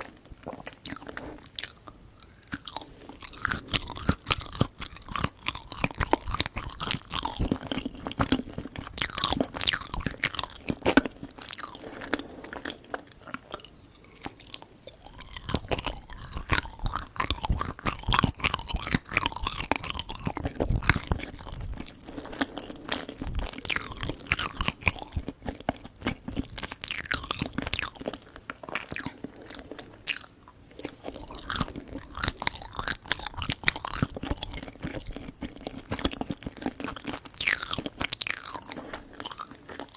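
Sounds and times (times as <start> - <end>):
chewing and crunching sweets: 0.0 - 39.9.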